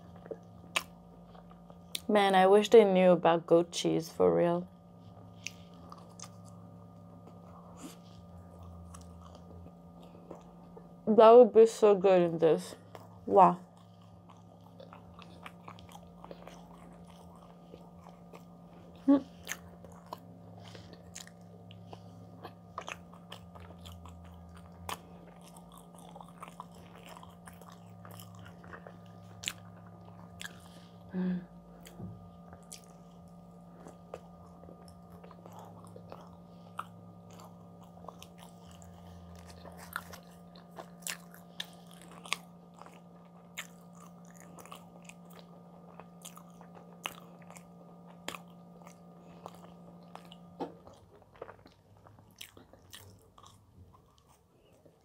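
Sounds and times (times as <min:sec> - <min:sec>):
chewing soft bread: 0:00.0 - 0:55.0
faint steady hum: 0:00.0 - 0:55.0.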